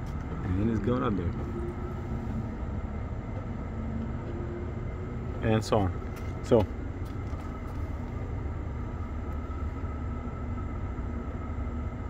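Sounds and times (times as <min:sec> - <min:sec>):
faint hum tones: 0:00.0 - 0:12.0
low street rumble: 0:00.0 - 0:12.0.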